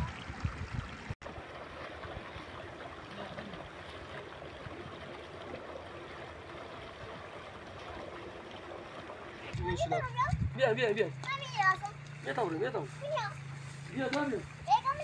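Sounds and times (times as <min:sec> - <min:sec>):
shallow water flowing: 0:00.0 - 0:15.0.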